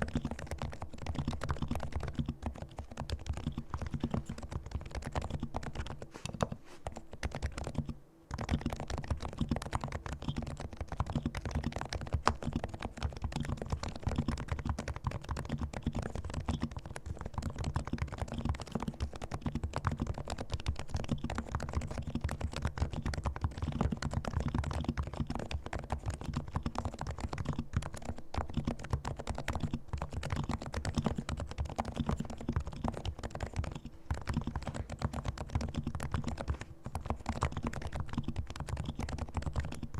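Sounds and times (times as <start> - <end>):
muted keyboard typing: 0.0 - 39.9.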